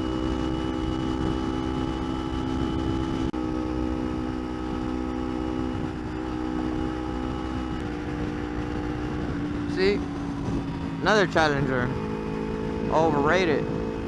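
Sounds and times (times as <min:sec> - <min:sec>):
motorcycle engine cruising: 0:00.0 - 0:14.0
wind rush on microphone: 0:00.0 - 0:14.0.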